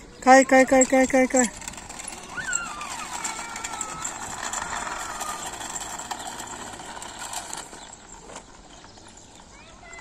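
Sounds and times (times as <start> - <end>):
scooter wheels rattling on asphalt: 0.0 - 10.0.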